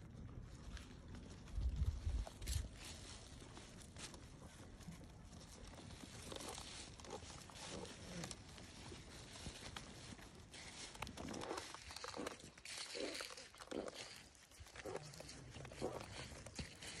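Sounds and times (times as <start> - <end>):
hooves shuffling on stony ground: 0.0 - 17.0
sheep tearing and chewing grass: 0.0 - 17.0.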